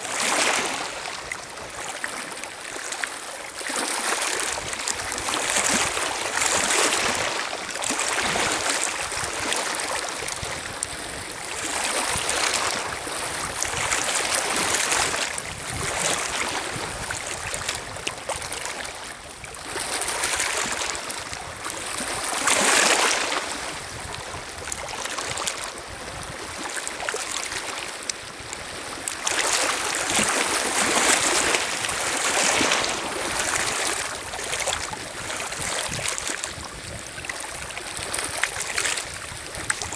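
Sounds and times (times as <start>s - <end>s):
waves lapping on pebble shore: 0.0s - 39.9s.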